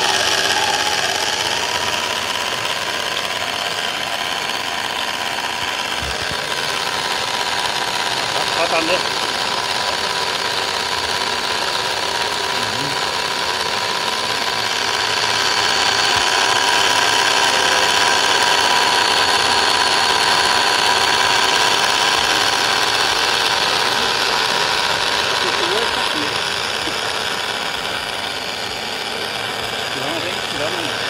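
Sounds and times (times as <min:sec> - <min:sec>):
model propeller motor whining: 0:00.0 - 0:31.0
propeller churning water: 0:00.0 - 0:31.0.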